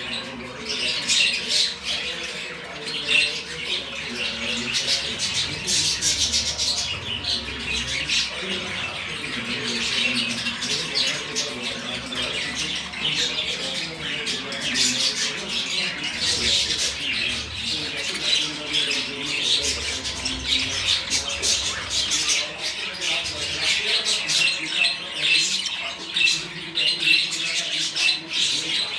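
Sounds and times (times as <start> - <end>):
budgerigars chattering: 0.0 - 28.9.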